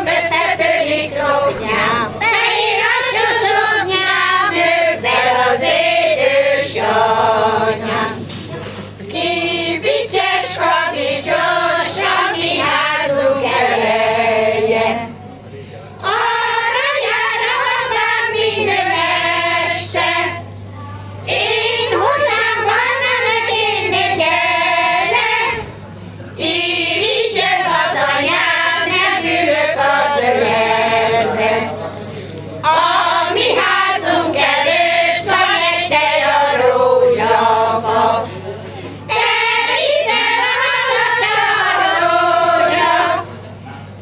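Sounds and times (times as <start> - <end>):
women's choir singing: 0.0 - 8.3, 9.0 - 15.3, 16.0 - 20.5, 21.2 - 32.0, 32.6 - 43.5.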